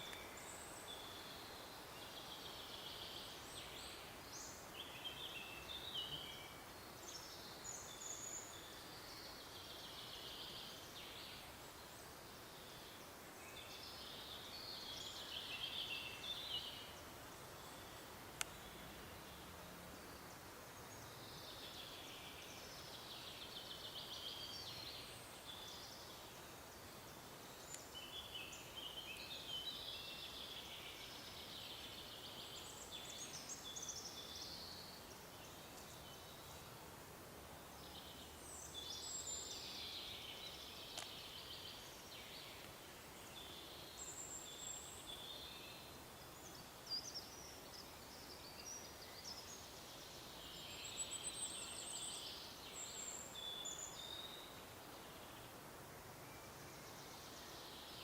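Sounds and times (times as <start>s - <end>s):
faint forest ambience: 0.0s - 58.0s
songbirds twittering: 0.0s - 58.0s.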